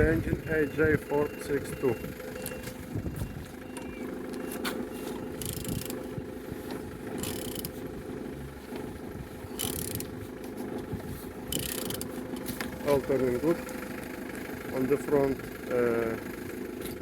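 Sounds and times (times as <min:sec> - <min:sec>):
engine turned over by hand: 0:00.0 - 0:17.0.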